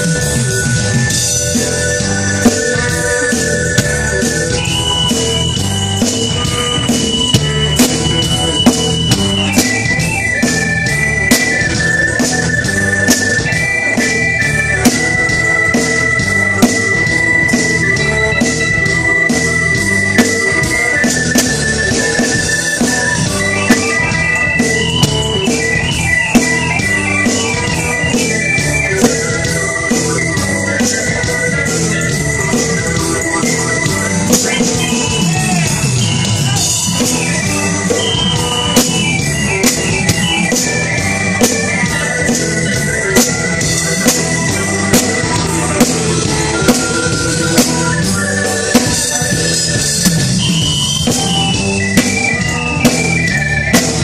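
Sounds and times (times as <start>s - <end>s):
drum beat: 0.0s - 54.0s
lead instrument long high notes: 0.0s - 54.0s
live blues band: 0.0s - 54.0s
low repeating riff: 0.0s - 54.0s.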